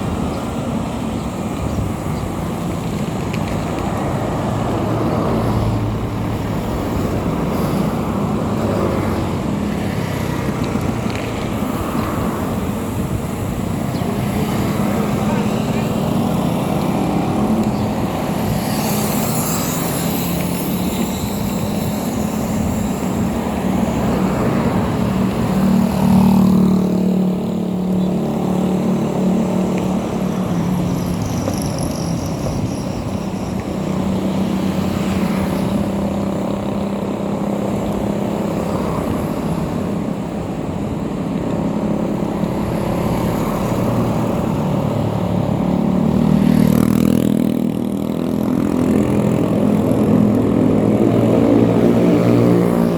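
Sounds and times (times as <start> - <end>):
motorcycle engine humming: 0.0 - 52.9.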